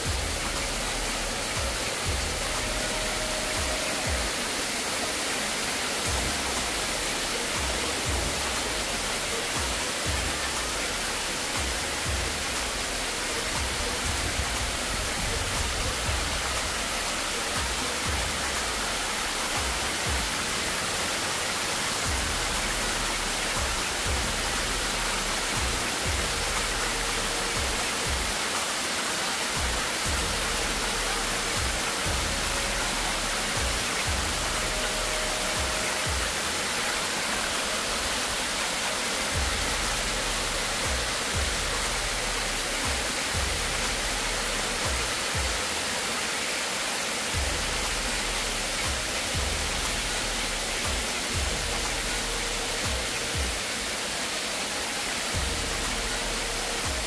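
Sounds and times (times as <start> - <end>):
background music with bass: 0.0 - 28.8, 29.4 - 46.0, 47.3 - 54.0, 54.9 - 57.0
waterfall rushing hiss: 0.0 - 57.0.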